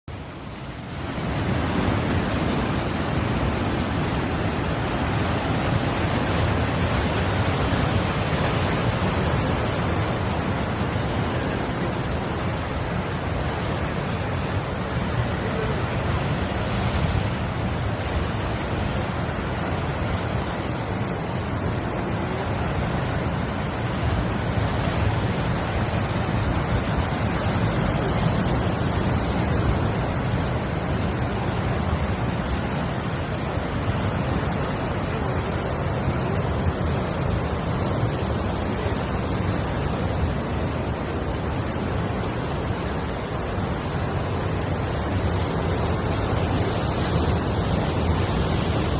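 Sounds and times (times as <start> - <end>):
waves rushing: 0.1 - 48.9.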